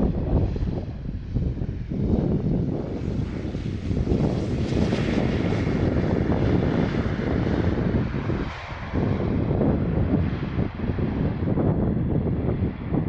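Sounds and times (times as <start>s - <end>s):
jet airliner engine noise: 0.0s - 13.0s
wind buffeting microphone: 0.0s - 13.0s.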